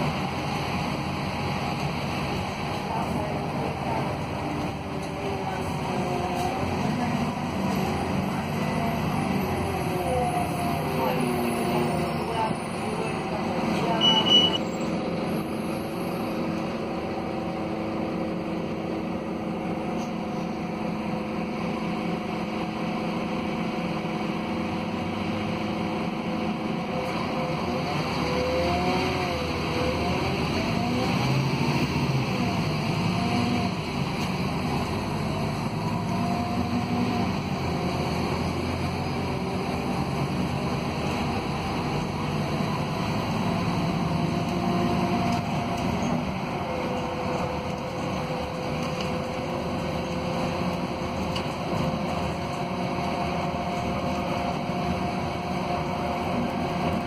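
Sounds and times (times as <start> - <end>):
bus diesel engine pulling uphill: 0.0 - 57.0.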